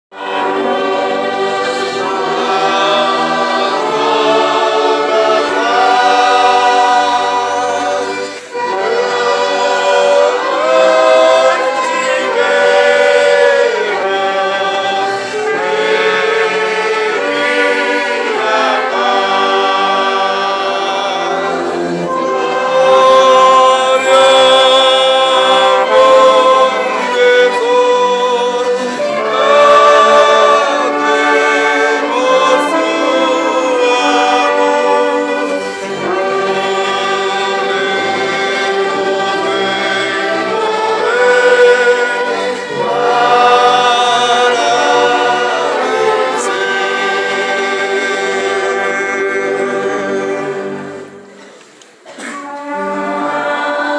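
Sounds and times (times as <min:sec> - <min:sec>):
brass and woodwind chords: 0:00.1 - 0:53.9
choir singing a hymn: 0:00.1 - 0:53.9.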